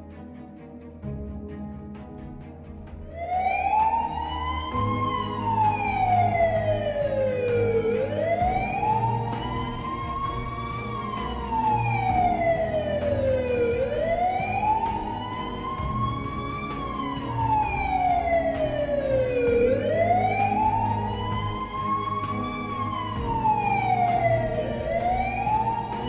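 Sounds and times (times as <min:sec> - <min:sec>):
ambulance siren wailing: 0:03.1 - 0:26.0.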